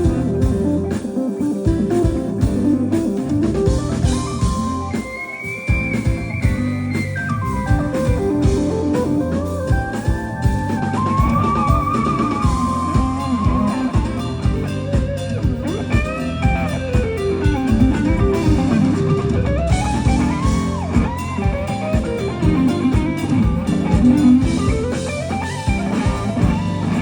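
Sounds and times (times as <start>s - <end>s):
bass guitar: 0.0s - 27.0s
drums: 0.0s - 27.0s
electric guitar solo: 0.0s - 27.0s.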